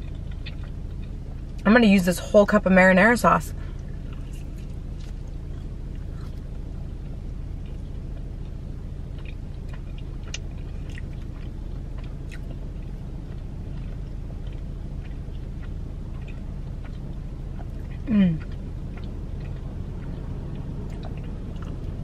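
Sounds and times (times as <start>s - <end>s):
chewing pizza: 0.0s - 1.9s, 3.5s - 22.0s
low hum inside car: 0.0s - 22.0s.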